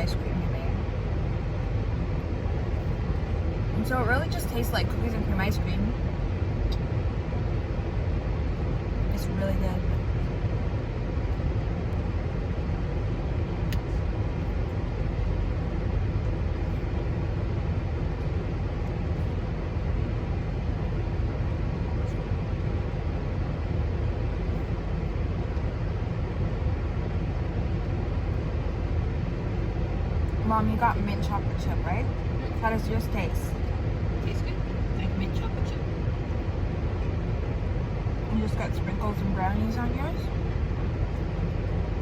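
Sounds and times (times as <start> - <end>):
car cabin engine rumble: 0.0 - 42.0.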